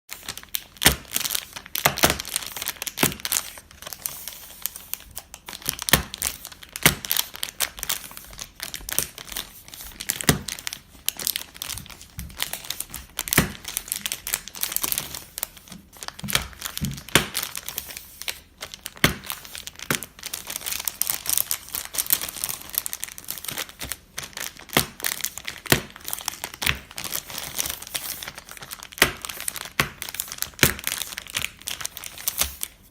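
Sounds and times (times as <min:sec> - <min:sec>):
wrapper crinkling: 0:00.1 - 0:32.9.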